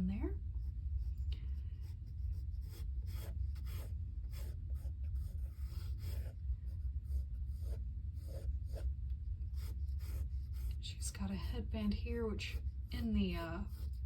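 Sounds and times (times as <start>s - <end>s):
steady low hum: 0.0s - 14.0s
pencil scratching on paper: 0.5s - 14.0s.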